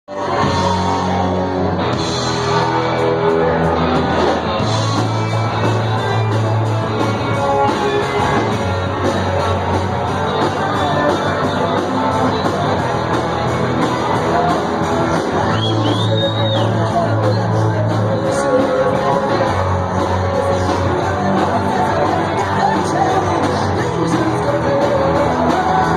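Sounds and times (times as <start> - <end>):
rock band playing live: 0.1 - 25.9.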